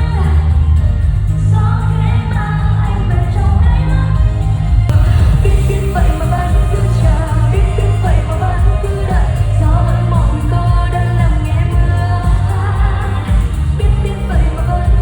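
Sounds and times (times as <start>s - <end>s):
live pop band playing: 0.0s - 15.0s
person singing: 0.0s - 15.0s
strong bass: 0.0s - 15.0s.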